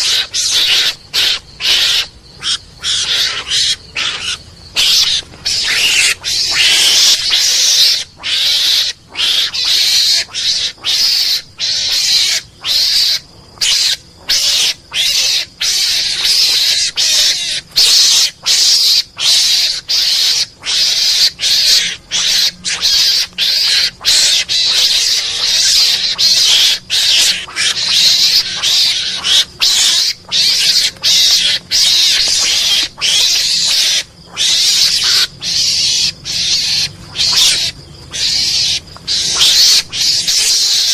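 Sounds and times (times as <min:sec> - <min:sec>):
harsh hissing animal calls: 0:00.0 - 0:40.9.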